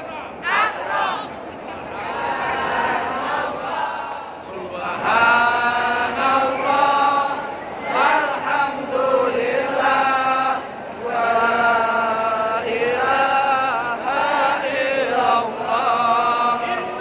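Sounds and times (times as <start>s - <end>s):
group chanting prayers in unison: 0.0s - 17.0s.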